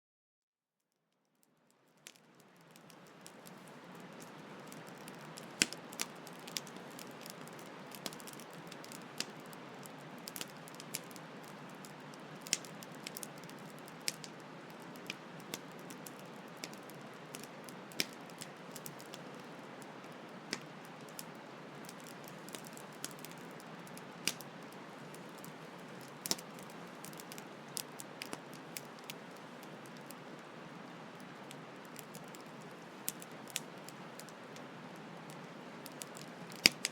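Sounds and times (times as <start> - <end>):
campfire crackling: 1.7 - 36.9.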